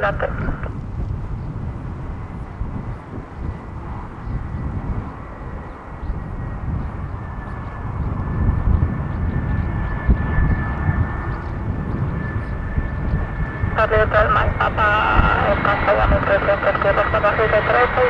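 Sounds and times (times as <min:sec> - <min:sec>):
jet engine high whine: 0:00.0 - 0:18.0
jet engine rumble: 0:00.0 - 0:18.0.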